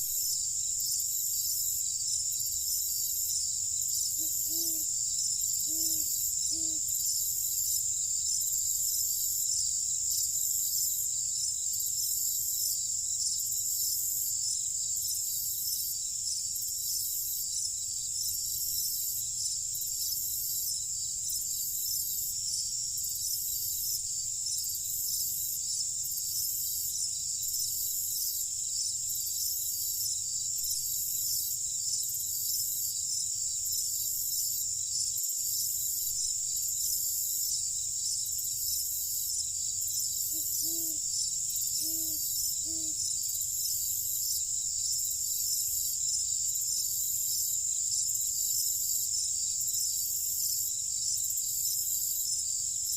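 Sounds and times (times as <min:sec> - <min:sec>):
crickets chirring: 0:00.0 - 0:52.9.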